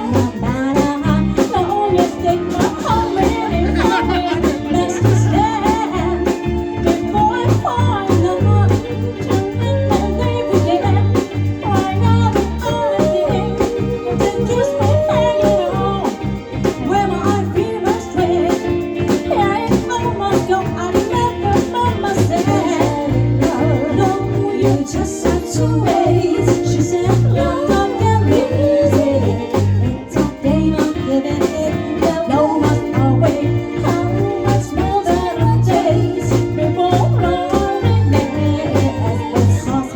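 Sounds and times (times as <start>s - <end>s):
bending sliding lead notes: 0.0s - 39.9s
drums keeping a steady beat: 0.0s - 39.9s
pulsing bass line: 0.0s - 39.9s.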